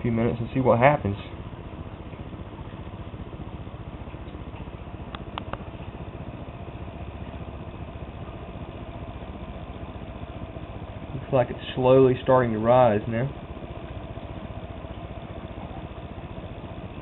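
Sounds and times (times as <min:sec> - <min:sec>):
fan running with flutter: 0:00.0 - 0:17.0.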